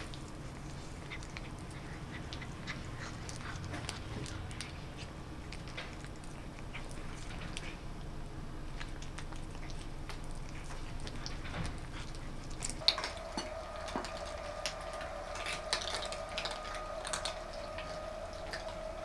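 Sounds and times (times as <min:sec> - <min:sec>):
cat chewing: 0:00.0 - 0:19.0
cats eating from metal bowls: 0:00.0 - 0:19.0
steady hum: 0:00.0 - 0:19.0.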